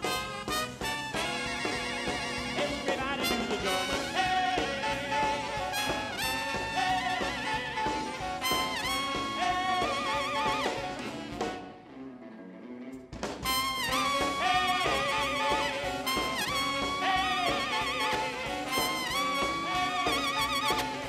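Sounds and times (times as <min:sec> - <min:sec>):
drums: 0:00.0 - 0:12.0, 0:12.9 - 0:21.0
swing band horn section: 0:00.0 - 0:12.0, 0:13.2 - 0:21.0.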